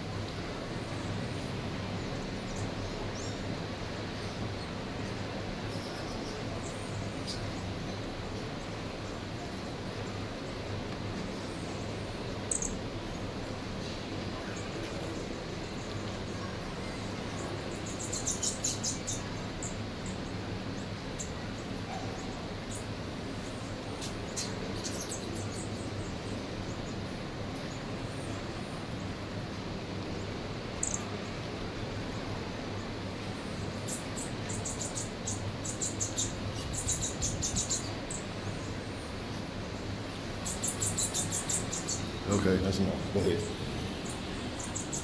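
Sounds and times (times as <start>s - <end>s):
low background hum: 0.0s - 45.0s
small birds chirping: 0.8s - 10.7s, 11.4s - 13.5s, 14.4s - 29.2s, 29.9s - 45.0s.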